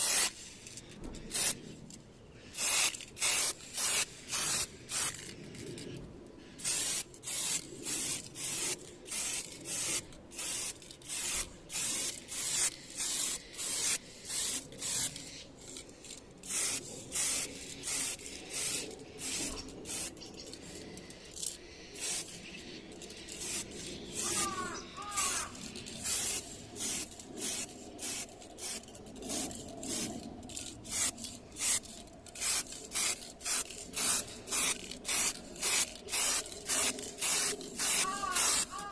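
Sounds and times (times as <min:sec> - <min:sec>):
spray paint hissing bursts: 0:00.0 - 0:01.6, 0:02.4 - 0:05.6, 0:06.6 - 0:38.9.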